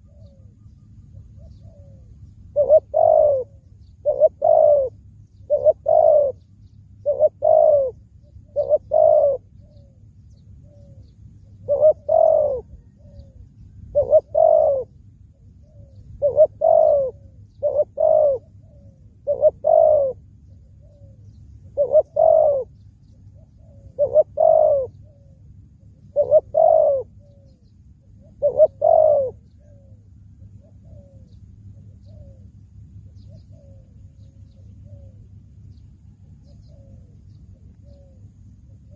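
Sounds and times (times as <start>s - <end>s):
dove cooing: 0.0s - 35.3s, 36.2s - 38.9s
low steady hum: 0.0s - 38.9s.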